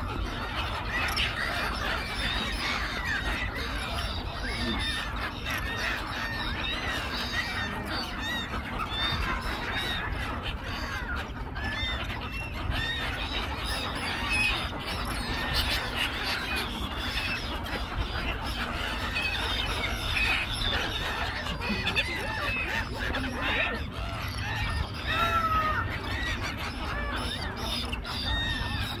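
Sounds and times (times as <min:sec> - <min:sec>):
gulls calling: 0:00.0 - 0:29.0.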